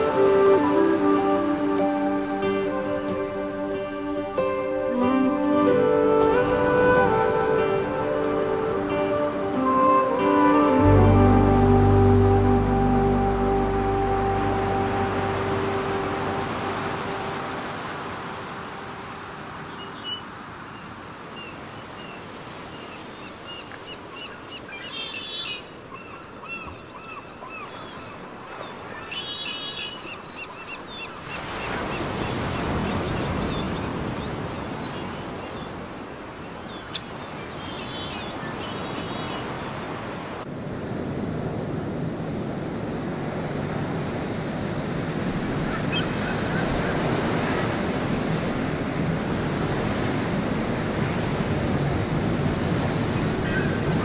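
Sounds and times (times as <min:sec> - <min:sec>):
sea noise: 0:00.0 - 0:54.0
wind: 0:00.0 - 0:54.0.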